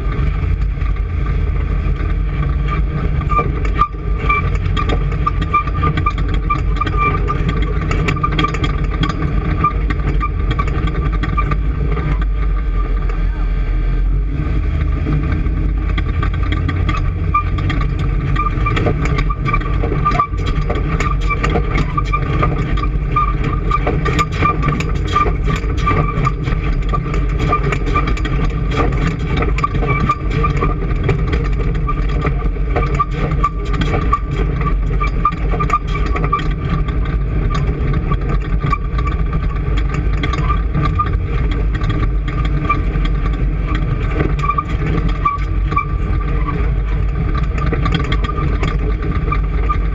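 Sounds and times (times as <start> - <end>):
engine running with whine: 0.0 - 49.9.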